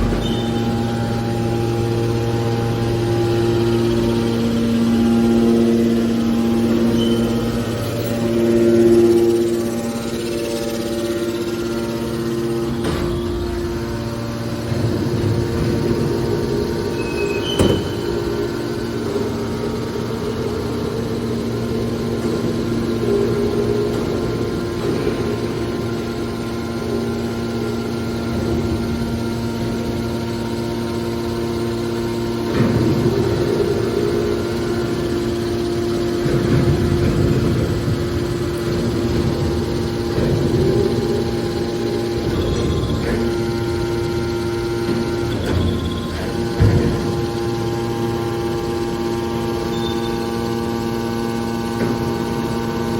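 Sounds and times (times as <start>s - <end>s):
hydraulic baler motor humming: 0.0s - 52.9s.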